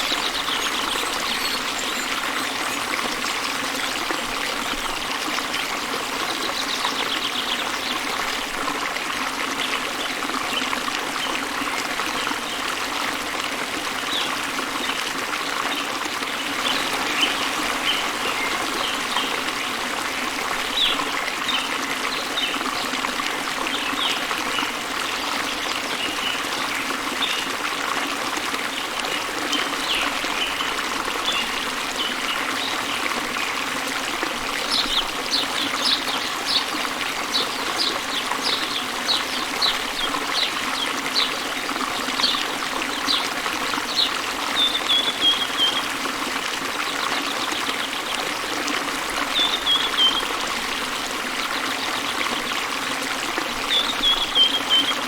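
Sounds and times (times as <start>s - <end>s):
waterfall and stream running: 0.0s - 55.0s.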